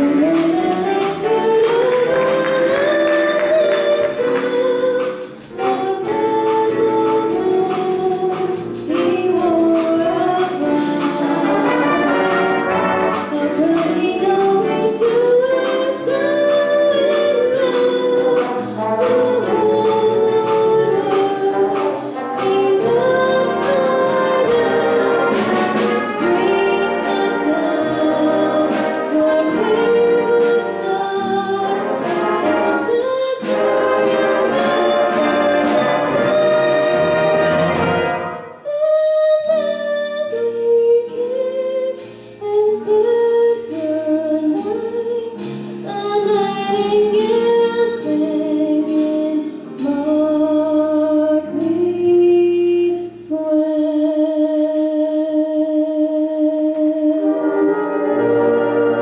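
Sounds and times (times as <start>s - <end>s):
woman singing: 0.0s - 37.9s, 38.6s - 58.5s
jazz big band playing: 0.0s - 55.0s, 56.5s - 59.0s.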